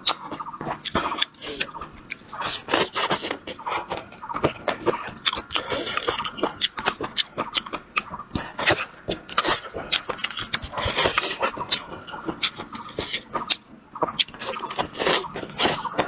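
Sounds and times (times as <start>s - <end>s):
mouth clicks and smacks: 0.0s - 16.0s
person chewing food: 0.0s - 16.0s.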